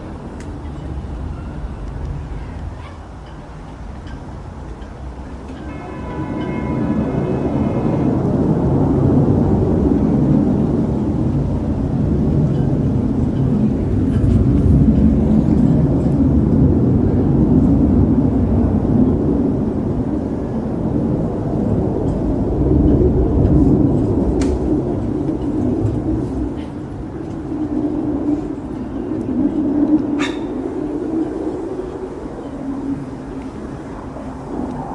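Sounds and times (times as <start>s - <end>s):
jet engine rumble: 0.0s - 34.9s.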